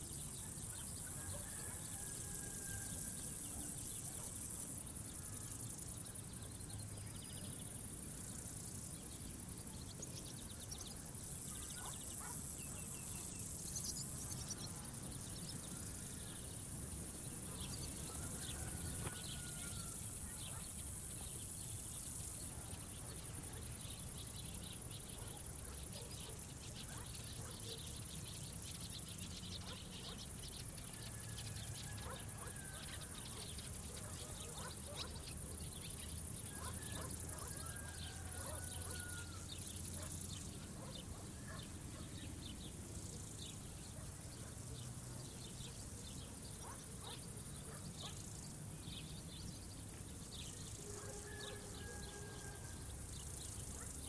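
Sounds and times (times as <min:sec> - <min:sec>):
insects buzzing: 0:00.0 - 0:06.4, 0:07.5 - 0:23.6, 0:31.2 - 0:54.0
outdoor ambience: 0:00.0 - 0:54.0.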